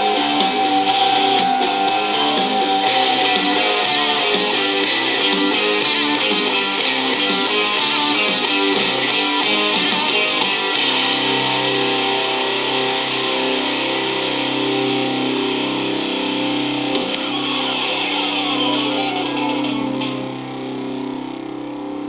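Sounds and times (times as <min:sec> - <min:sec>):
hard rock electric guitars: 0:00.0 - 0:22.0.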